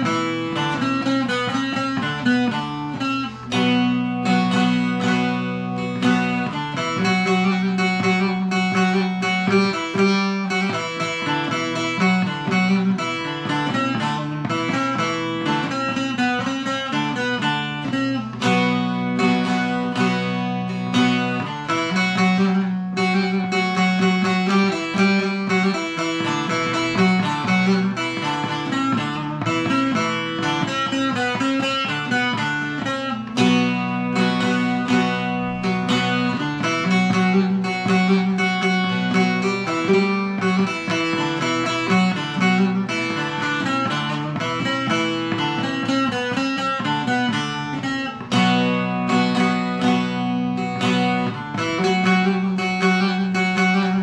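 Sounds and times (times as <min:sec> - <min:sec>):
long-necked lute plucked and strummed: 0:00.0 - 0:54.0.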